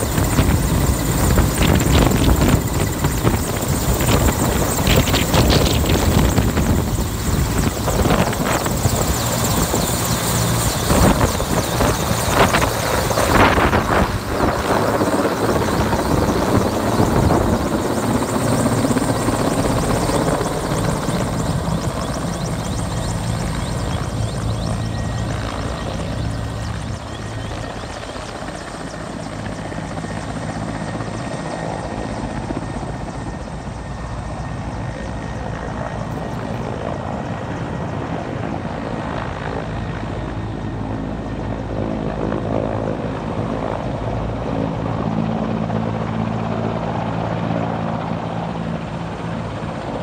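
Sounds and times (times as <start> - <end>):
helicopter rotor and turbines: 0.0 - 50.0.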